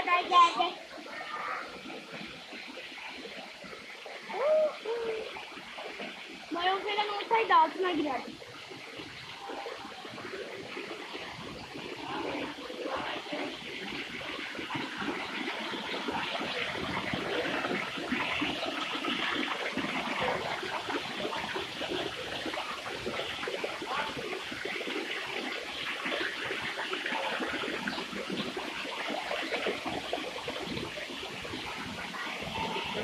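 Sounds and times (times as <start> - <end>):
small waterfall splashing: 0.0 - 33.0.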